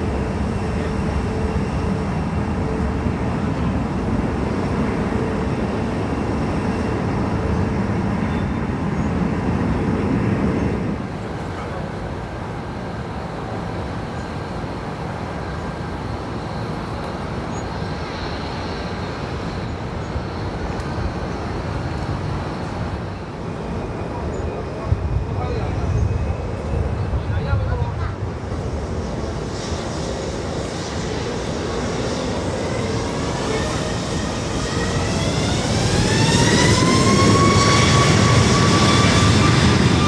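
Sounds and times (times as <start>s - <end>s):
aircraft engines rumbling: 0.0s - 40.0s.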